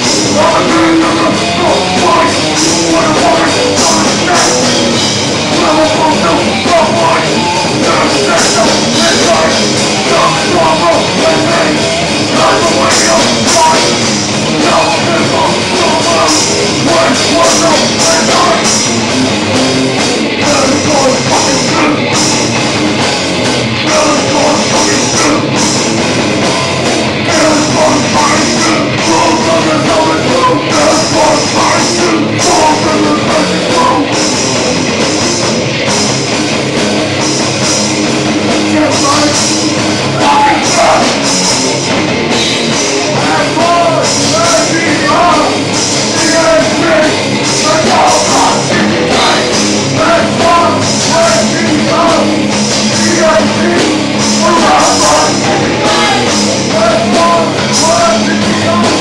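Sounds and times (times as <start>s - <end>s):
bass guitar: 0.0s - 59.0s
distorted guitars: 0.0s - 59.0s
drum kit with cymbals: 0.0s - 59.0s
metal vocals: 0.0s - 59.0s.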